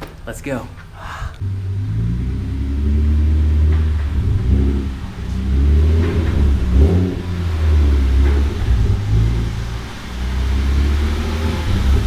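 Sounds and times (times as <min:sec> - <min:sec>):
car engine at low revs: 0:00.8 - 0:12.0.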